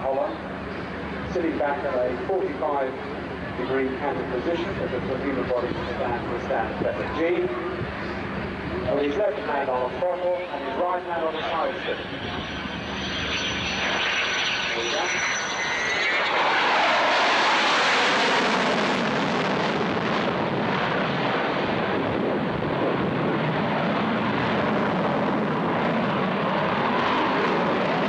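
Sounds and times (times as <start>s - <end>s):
fighter jet engine roaring: 0.0s - 28.0s.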